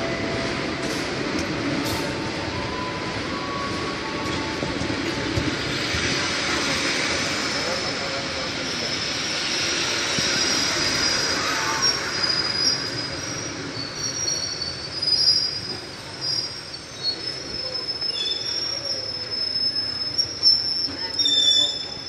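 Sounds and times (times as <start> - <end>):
train brakes squealing: 0.1 - 22.0.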